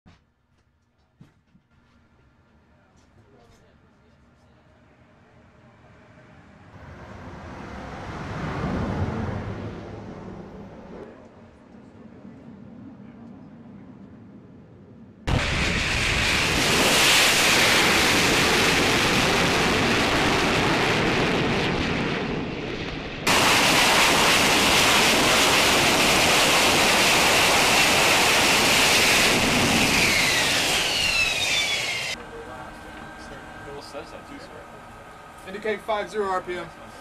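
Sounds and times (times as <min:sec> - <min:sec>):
jet engine roar with turbine whine: 0:05.9 - 0:37.0.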